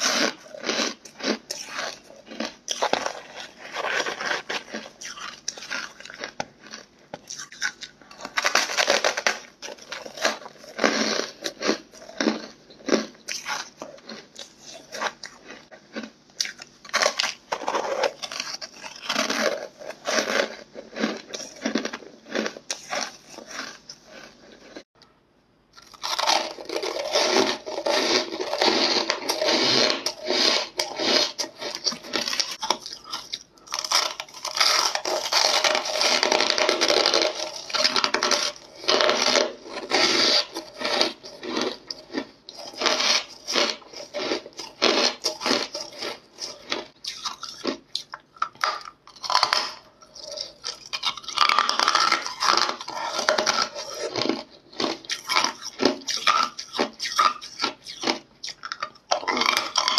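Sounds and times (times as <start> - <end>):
ice crunching in mouth: 0.0 - 24.8, 25.8 - 59.9.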